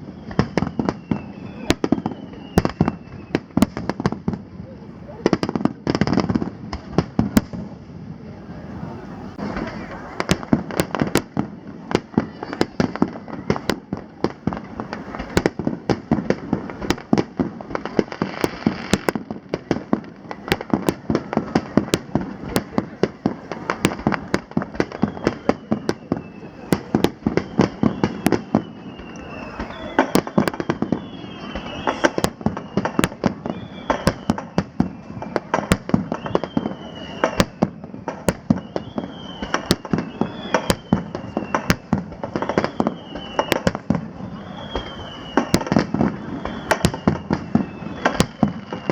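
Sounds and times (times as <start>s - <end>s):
falling firework whistles: 0.0s - 7.7s, 8.5s - 48.9s
fireworks bangs and crackles: 0.0s - 48.9s.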